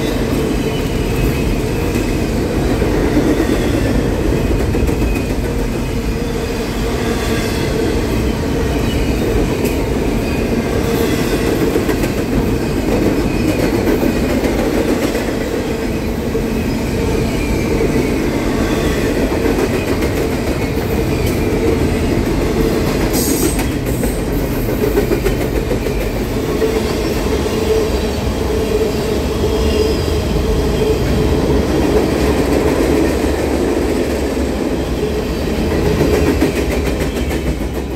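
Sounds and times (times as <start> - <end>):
freight train wheels rumbling on rail: 0.0 - 37.9.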